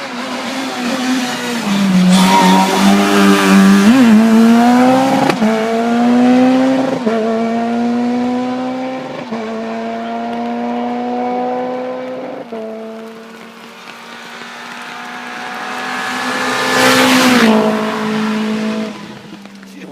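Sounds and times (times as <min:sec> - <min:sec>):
rally car accelerating through gears: 0:00.0 - 0:19.4.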